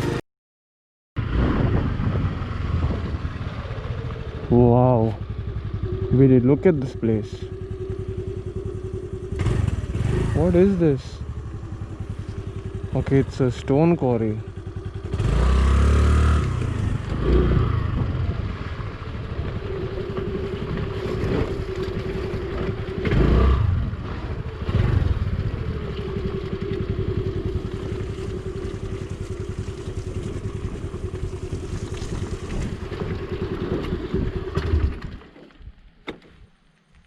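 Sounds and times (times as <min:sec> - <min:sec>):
motorcycle engine rumbling: 0:01.2 - 0:37.0.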